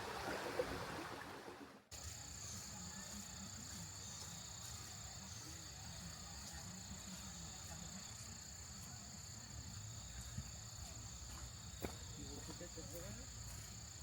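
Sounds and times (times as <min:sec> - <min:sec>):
crickets trilling: 0:01.9 - 0:14.0.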